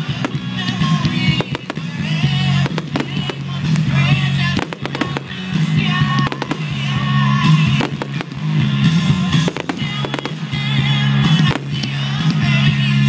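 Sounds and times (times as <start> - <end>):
firework shells bursting: 0.0 - 12.6
music playing: 0.0 - 13.0.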